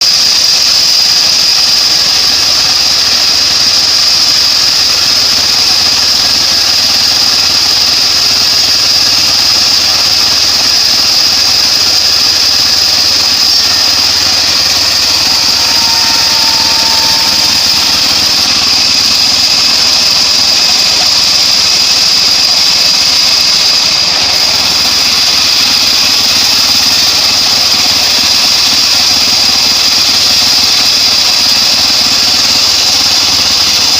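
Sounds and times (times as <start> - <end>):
high-pitched saw whine: 0.0 - 33.9
sawmill engine drone: 0.0 - 33.9.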